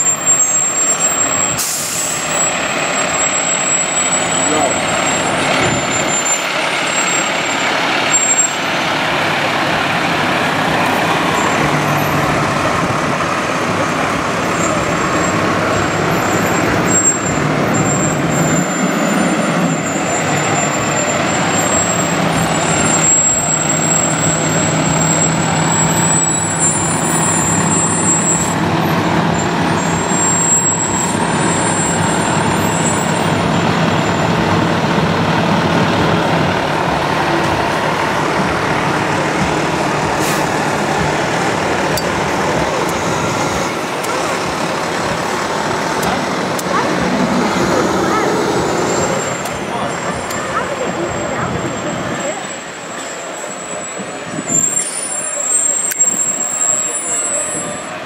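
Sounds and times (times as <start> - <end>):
fire truck diesel engines: 0.0 - 58.0.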